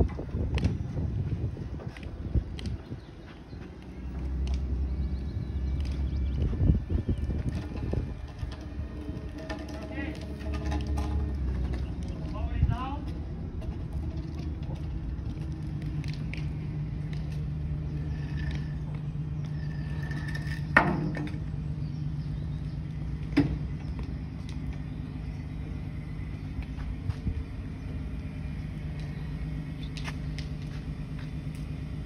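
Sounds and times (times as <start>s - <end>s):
forklifts humming: 0.0s - 32.0s.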